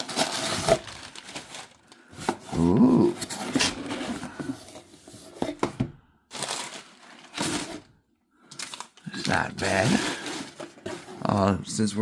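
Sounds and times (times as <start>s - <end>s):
packaging rustling: 0.0s - 5.7s, 6.3s - 11.4s.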